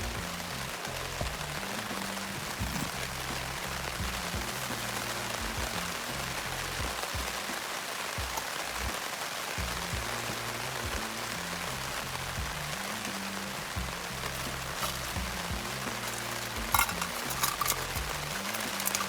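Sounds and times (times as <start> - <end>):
background music: 0.0 - 19.0
steady rain hiss: 0.0 - 19.0.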